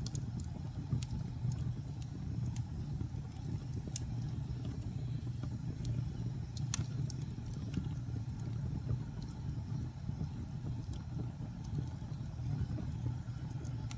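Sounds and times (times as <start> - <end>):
fire crackling and popping: 0.0 - 13.9
low fire rumble: 0.0 - 13.9.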